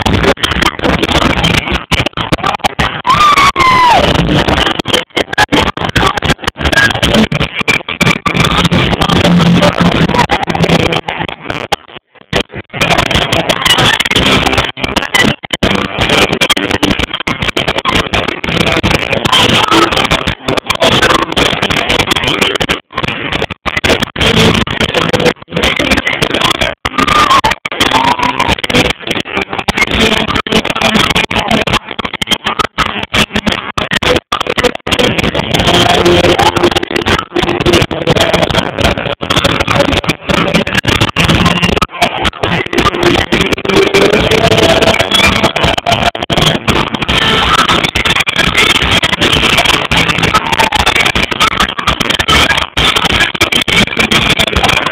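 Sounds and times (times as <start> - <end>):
distorted live hard rock band: 0.0 - 54.9.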